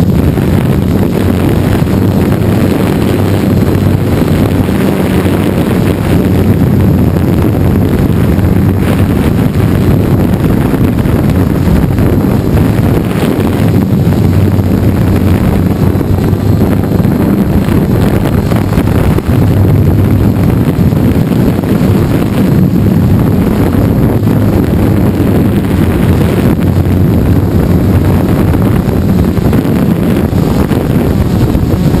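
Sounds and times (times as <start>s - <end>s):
quadcopter propellers buzzing: 0.0s - 32.0s
wind rushing over microphone: 0.0s - 32.0s.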